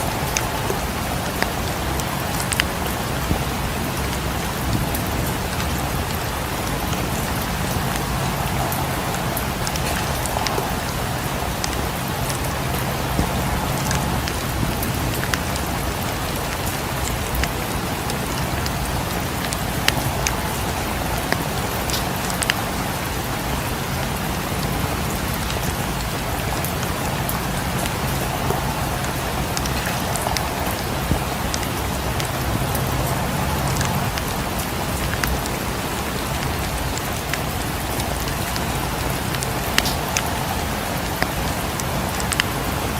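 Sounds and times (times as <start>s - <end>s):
rain falling on a cabin: 0.0s - 42.9s
wood fire crackling: 0.0s - 42.9s.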